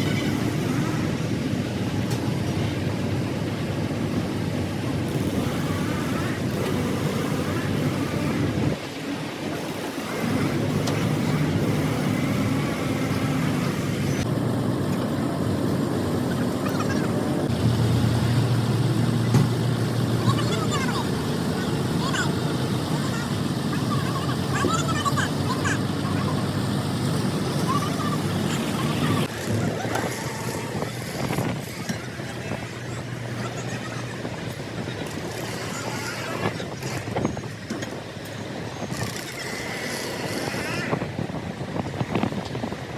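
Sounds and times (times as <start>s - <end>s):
large engine rumbling: 0.0s - 42.9s.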